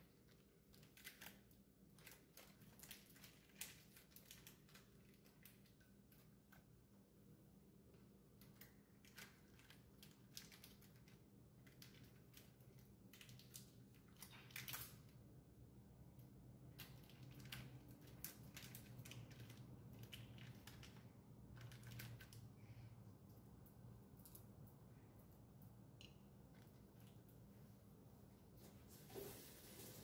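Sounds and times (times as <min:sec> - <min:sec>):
faint room hum: 0:00.0 - 0:30.0.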